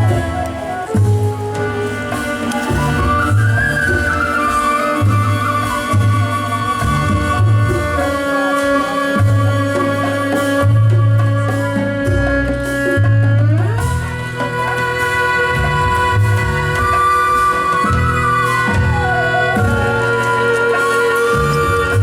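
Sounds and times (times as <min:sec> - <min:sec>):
light percussion: 0:00.0 - 0:22.0
live ensemble music: 0:00.0 - 0:22.0.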